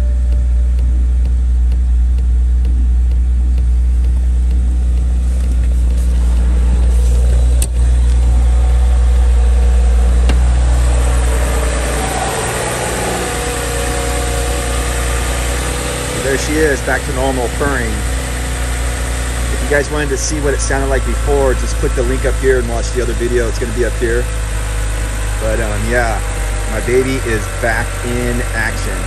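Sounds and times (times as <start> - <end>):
car engine idling smoothly: 0.0 - 29.0.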